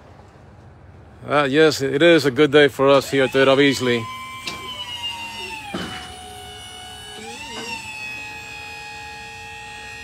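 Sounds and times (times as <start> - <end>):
high mechanical truck whine: 0.0 - 10.0.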